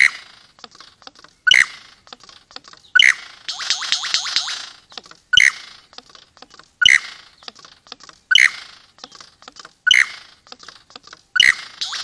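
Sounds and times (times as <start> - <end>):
lyrebird dry clicks: 0.0 - 12.0
lyrebird sharp notes: 0.0 - 12.0.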